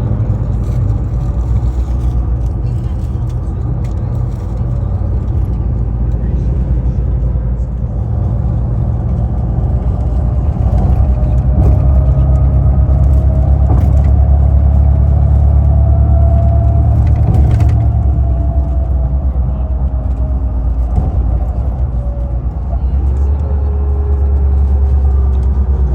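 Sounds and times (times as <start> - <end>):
vehicle engine and road rumble: 0.0 - 25.9.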